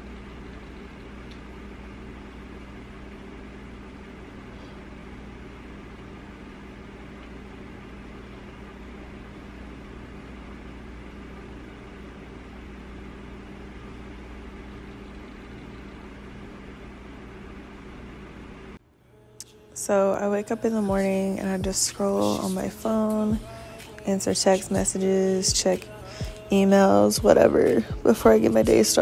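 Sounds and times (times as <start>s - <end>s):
low mechanical hum with hiss: 0.0s - 29.0s.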